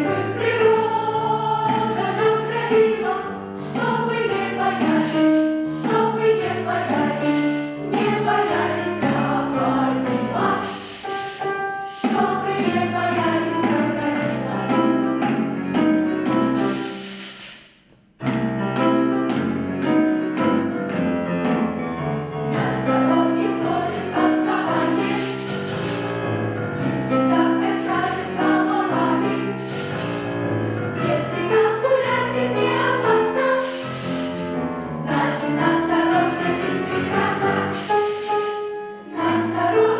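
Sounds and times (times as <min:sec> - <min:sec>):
children's choir singing: 0:00.0 - 0:15.4, 0:22.5 - 0:39.9
instrumental accompaniment: 0:00.0 - 0:39.9.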